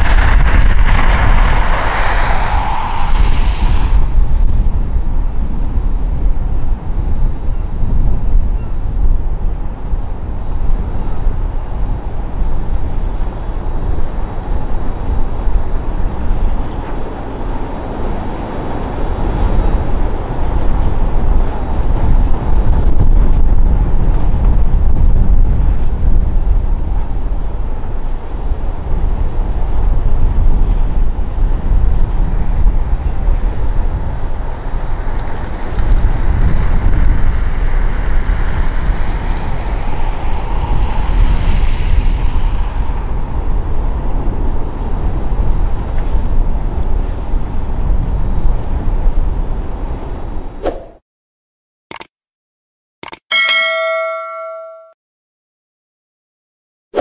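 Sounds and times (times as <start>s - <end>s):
wind buffeting microphone: 0.0s - 50.6s
steady outdoor rumble: 0.0s - 50.7s.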